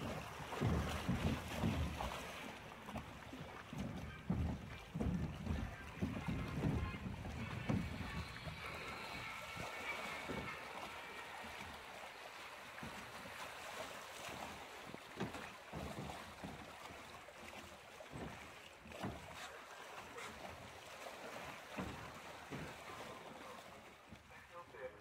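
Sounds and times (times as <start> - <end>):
water rushing along flume channel: 0.0 - 25.0.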